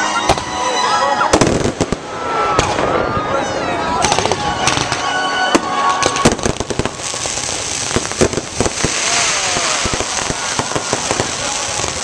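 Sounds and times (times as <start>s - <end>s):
fireworks bangs and crackles: 0.2s - 12.0s.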